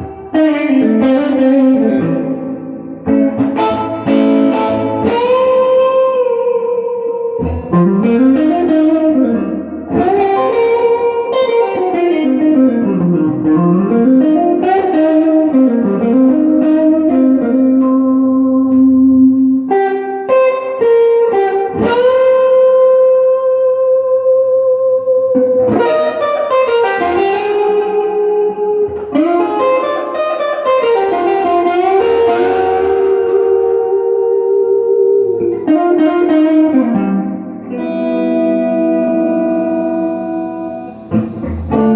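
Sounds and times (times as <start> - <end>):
bent guitar notes: 0.0 - 41.9
electric guitar with reverb: 0.0 - 41.9.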